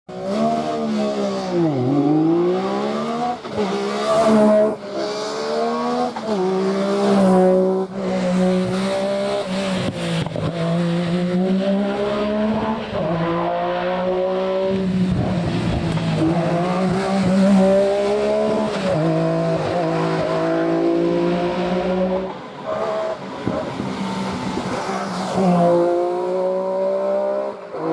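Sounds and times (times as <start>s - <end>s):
rally car engine revving: 0.1s - 27.9s.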